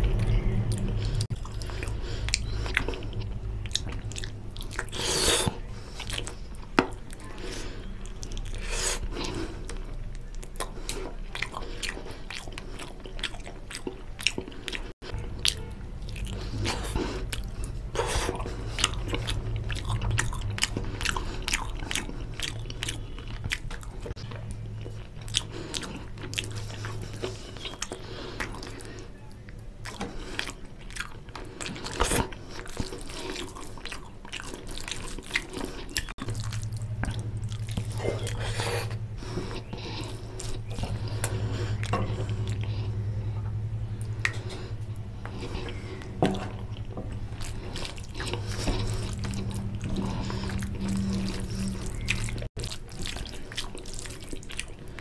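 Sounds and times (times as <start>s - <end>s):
low steady hum: 0.0s - 55.0s
wet chewing and lip-smacking: 0.0s - 55.0s.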